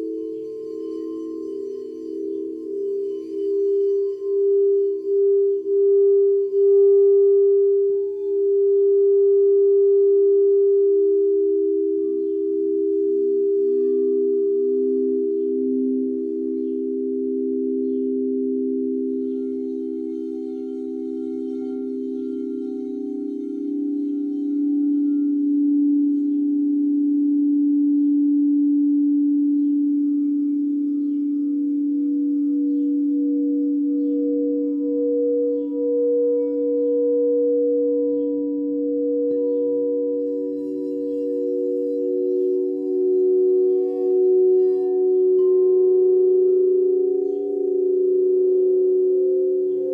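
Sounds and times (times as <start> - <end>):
sound bowls ringing: 0.0 - 49.9.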